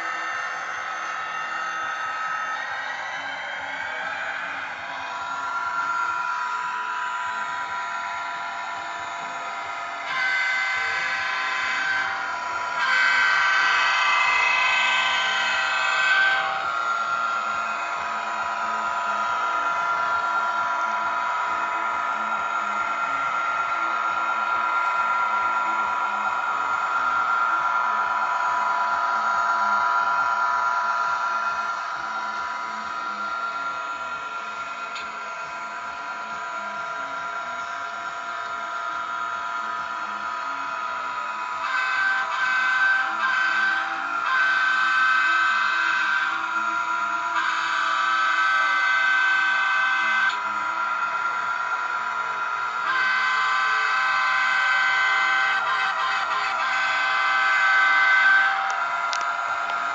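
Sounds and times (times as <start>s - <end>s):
diesel locomotive engine through small speaker: 0.0s - 59.9s.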